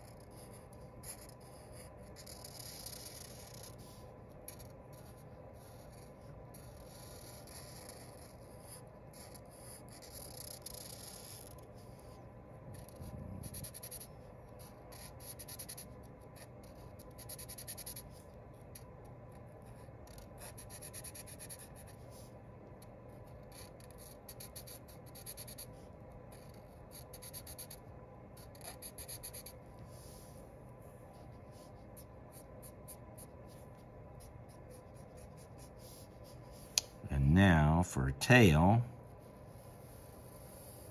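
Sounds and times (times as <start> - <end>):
marker scratching on paper: 0.0 - 27.8, 28.4 - 30.4, 31.0 - 36.9, 39.1 - 40.9.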